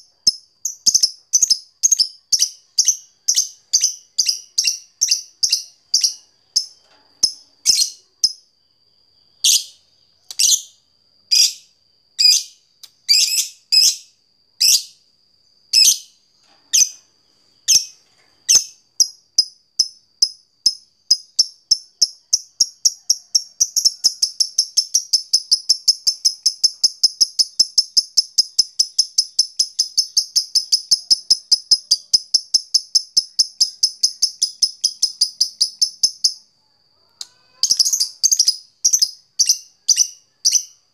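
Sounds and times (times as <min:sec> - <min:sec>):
lovebird chirping and chattering: 0:00.2 - 0:08.4, 0:09.4 - 0:10.7, 0:11.3 - 0:14.9, 0:15.8 - 0:16.1, 0:19.8 - 0:36.4, 0:37.6 - 0:40.8.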